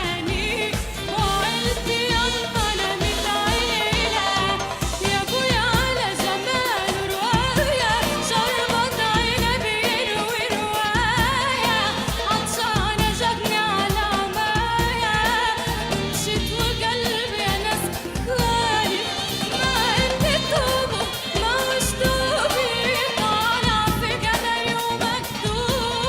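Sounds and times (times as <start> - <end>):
backing band with steady beat: 0.0 - 26.0
person singing with vibrato: 0.0 - 26.0.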